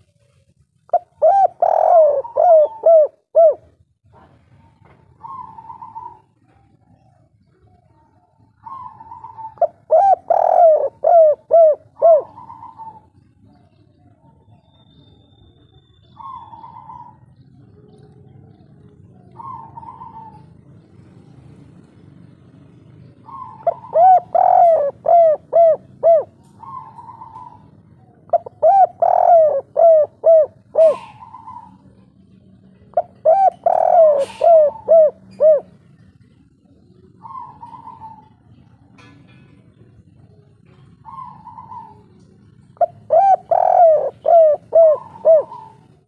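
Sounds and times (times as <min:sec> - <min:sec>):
dove cooing: 0:00.0 - 0:46.0.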